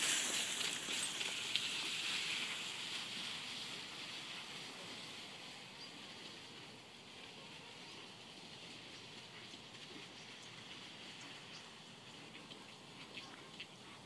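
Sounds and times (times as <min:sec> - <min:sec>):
cart wheels crunching on gravel: 0:00.0 - 0:14.0.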